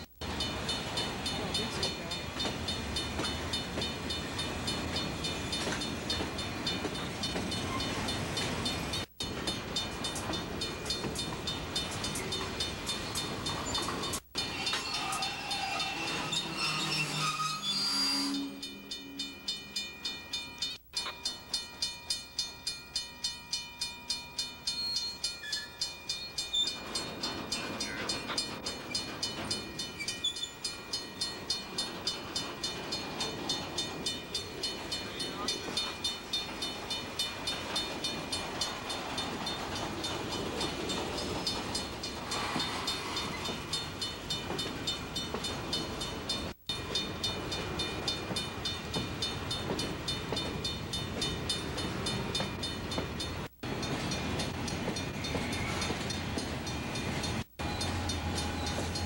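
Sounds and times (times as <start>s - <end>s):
freight train rumbling: 0.0s - 59.0s
crossing bell ringing: 0.2s - 59.0s.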